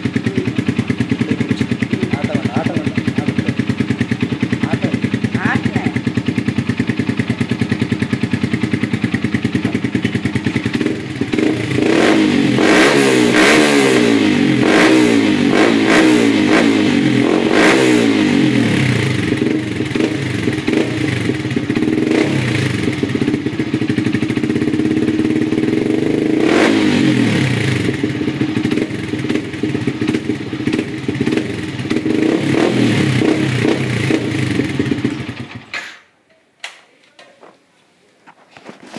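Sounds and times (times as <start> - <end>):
motorcycle engine revving: 0.0 - 35.7.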